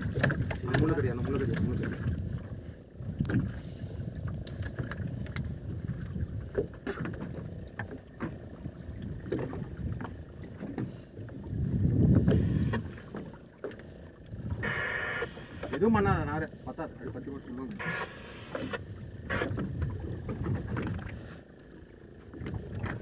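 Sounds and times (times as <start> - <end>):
low rumble of wind and water: 0.0 - 23.0.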